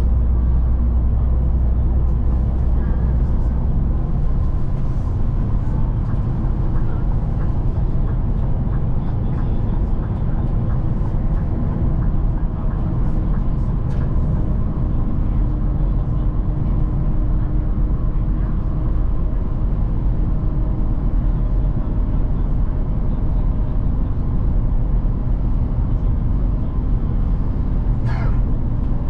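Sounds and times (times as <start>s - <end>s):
bus engine and tyre noise: 0.0s - 29.0s.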